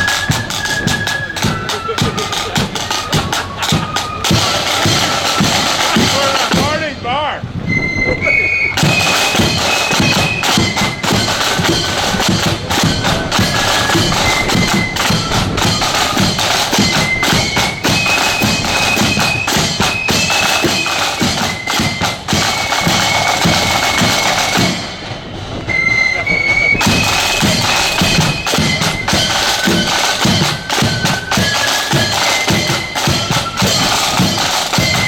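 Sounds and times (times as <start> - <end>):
shrill flute melody: 0.0 - 7.0, 7.6 - 35.0
snare and bass drumming: 0.0 - 7.3, 8.0 - 25.4, 26.2 - 35.0.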